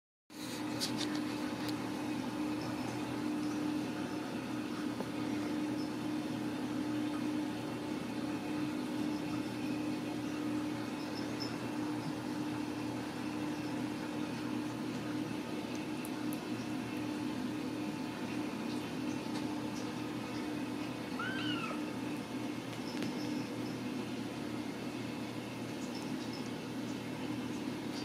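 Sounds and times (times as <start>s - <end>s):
steady mechanical hum: 0.3s - 28.0s.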